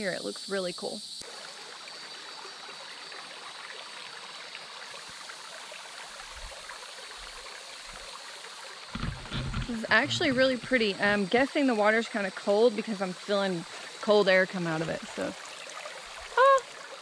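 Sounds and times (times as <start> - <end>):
faint insect trill: 0.0 - 17.0
creek water flowing: 1.2 - 17.0.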